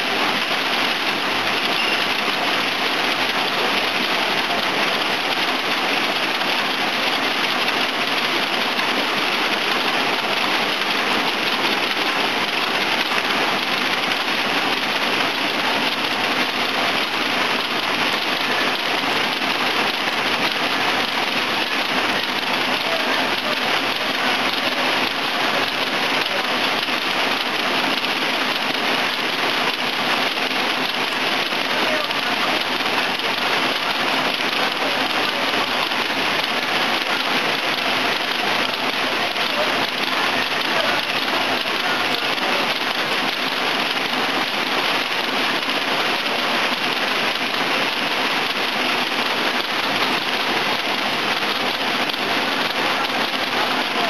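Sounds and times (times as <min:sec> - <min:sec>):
machine rattling hiss: 0:00.0 - 0:54.0.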